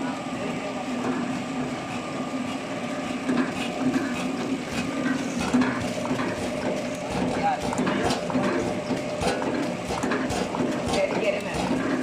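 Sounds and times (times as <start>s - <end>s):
packaging machine humming: 0.0s - 12.0s.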